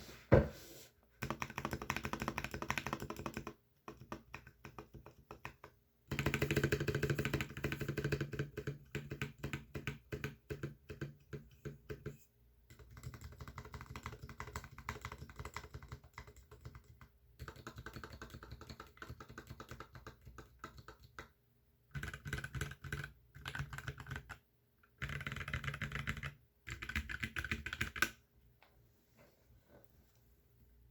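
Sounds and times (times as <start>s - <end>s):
mechanical keyboard typing: 1.2s - 21.3s, 21.9s - 28.2s.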